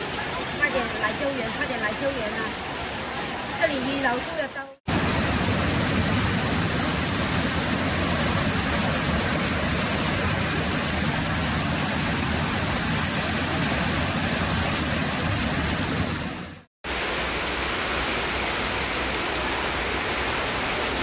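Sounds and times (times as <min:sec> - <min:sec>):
floodwater rushing down ramp: 0:00.0 - 0:21.0.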